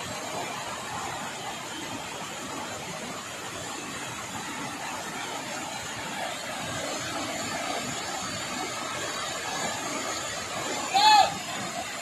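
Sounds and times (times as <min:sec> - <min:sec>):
waterfall rushing onto rock: 0:00.0 - 0:12.0.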